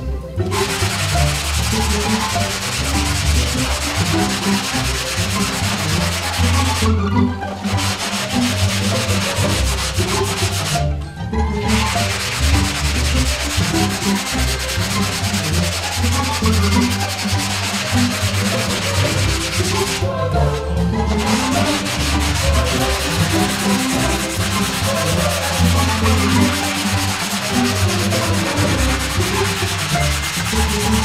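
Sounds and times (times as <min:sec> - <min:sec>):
coarse sandpaper rasping on filler: 0:00.5 - 0:10.9, 0:11.6 - 0:31.0.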